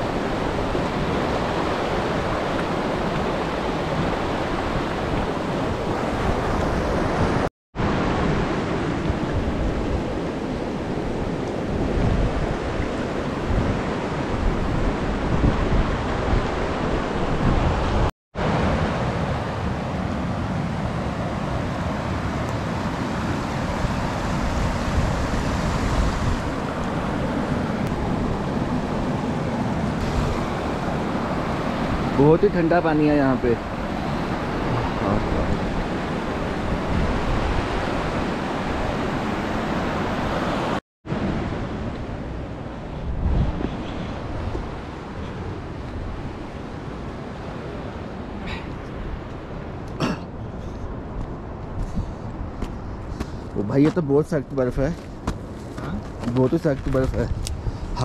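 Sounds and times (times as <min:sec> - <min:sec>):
wind on microphone: 0:00.0 - 0:19.0, 0:22.0 - 0:32.2, 0:33.5 - 0:53.7, 0:54.8 - 0:58.0.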